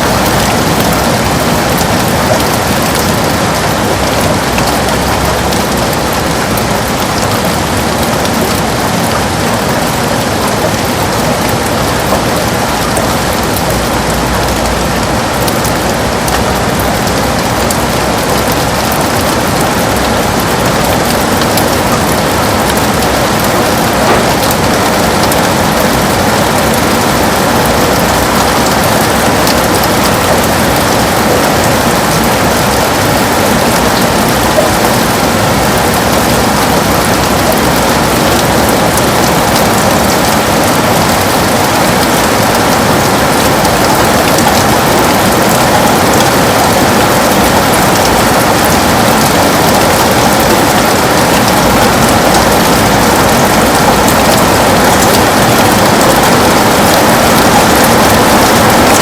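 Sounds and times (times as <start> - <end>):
heavy rain on a window: 0.0 - 59.0.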